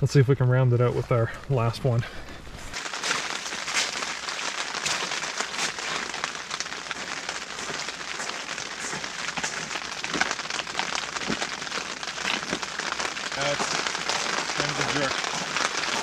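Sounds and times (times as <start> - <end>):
rain pattering on tent fabric: 1.9 - 16.0.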